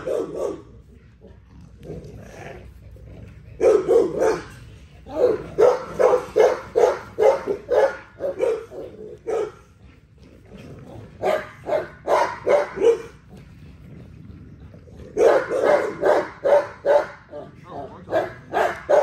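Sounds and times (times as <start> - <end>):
dogs barking excitedly: 0.0 - 19.0.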